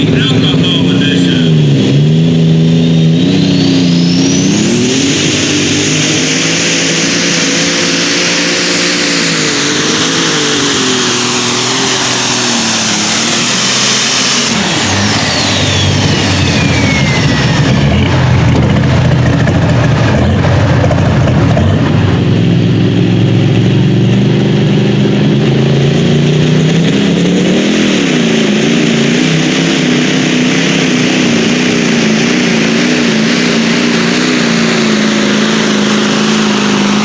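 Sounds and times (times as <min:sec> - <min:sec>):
tractor diesel engine full throttle: 0:00.0 - 0:37.0
turbocharger whine: 0:00.0 - 0:37.0.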